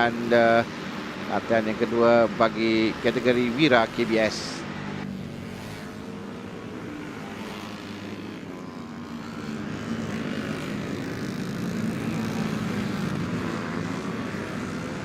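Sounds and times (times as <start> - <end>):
racing motorcycle engines buzzing: 0.0 - 15.0.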